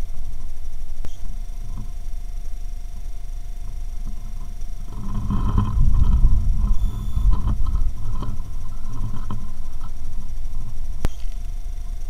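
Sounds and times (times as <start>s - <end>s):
low rumbling microphone noise: 0.0s - 12.0s.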